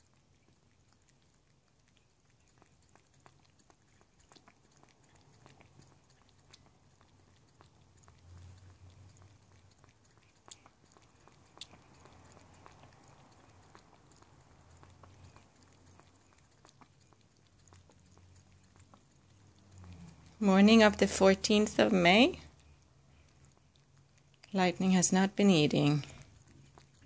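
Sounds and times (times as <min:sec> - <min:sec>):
cat lapping liquid: 0:00.0 - 0:27.0
low steady hum: 0:00.0 - 0:27.0.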